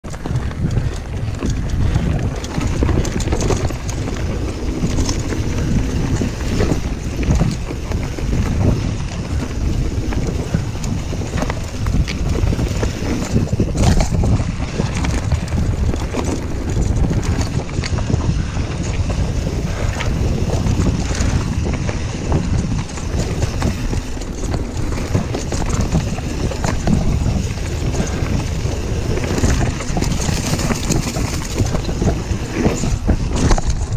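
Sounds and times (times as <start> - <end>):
bike rattling and knocking: 0.0 - 33.9
tyres on dirt: 0.0 - 33.9
wind buffeting microphone: 0.0 - 33.9.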